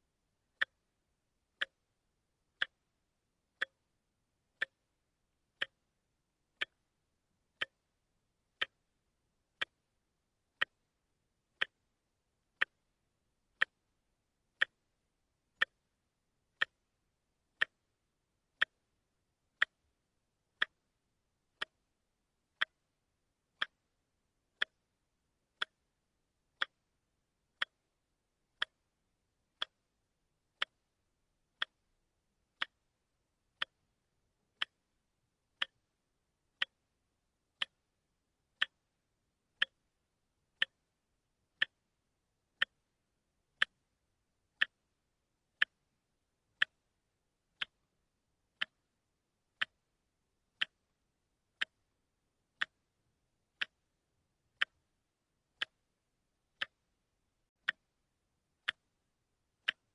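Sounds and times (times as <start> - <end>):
watch ticking: 0.5 - 29.9, 30.5 - 39.0, 39.6 - 46.9, 47.6 - 47.9, 48.5 - 58.0, 58.6 - 59.9.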